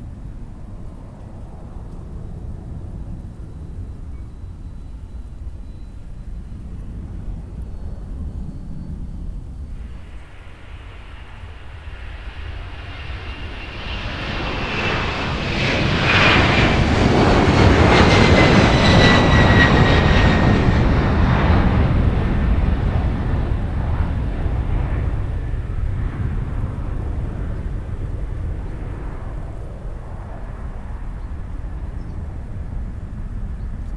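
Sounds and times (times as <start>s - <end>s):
high jet engine whine: 0.0s - 33.9s
jet engines rumbling: 0.0s - 33.9s.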